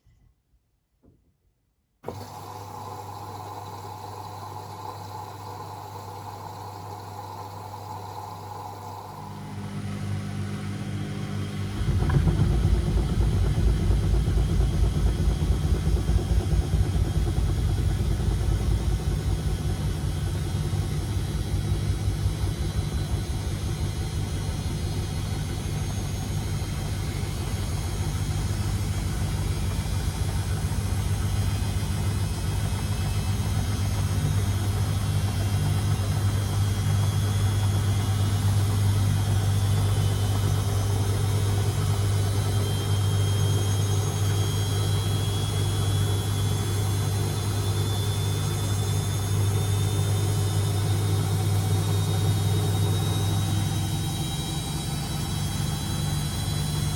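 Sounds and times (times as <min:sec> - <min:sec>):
washing machine motor humming: 0:02.0 - 0:56.9.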